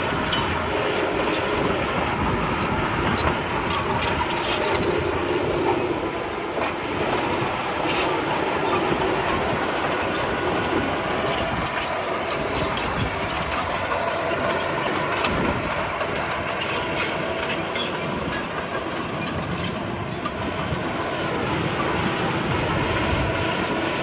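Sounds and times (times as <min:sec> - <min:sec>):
bulldozer diesel engine running: 0:00.0 - 0:24.0
metallic clatter of tracks: 0:00.1 - 0:24.0.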